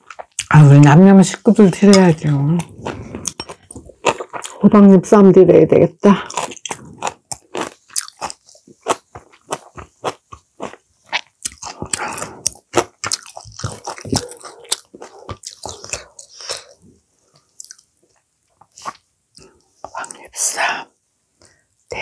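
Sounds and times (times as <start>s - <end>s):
food crackling: 0.0s - 5.3s, 6.0s - 22.0s.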